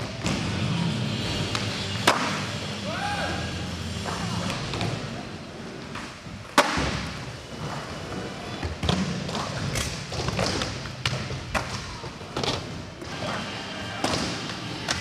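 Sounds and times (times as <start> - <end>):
skateboard wheels rolling: 0.0 - 15.0.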